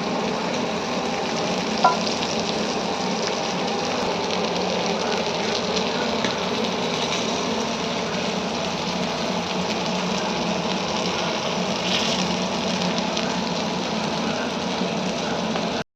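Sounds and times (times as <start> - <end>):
fish sizzling in hot oil: 0.0 - 15.8.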